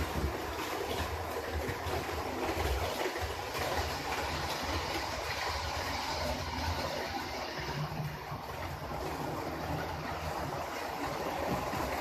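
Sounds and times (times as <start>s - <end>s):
model trains running on track: 0.0s - 1.6s, 2.2s - 12.0s.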